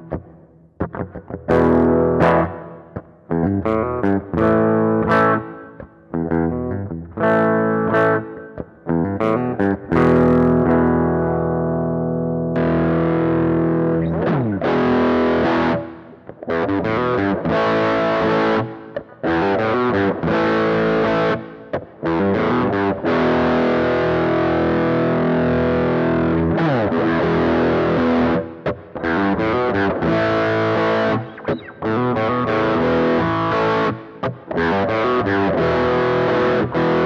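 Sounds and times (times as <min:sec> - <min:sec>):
fuzzy distorted electric guitar: 0:00.0 - 0:37.0.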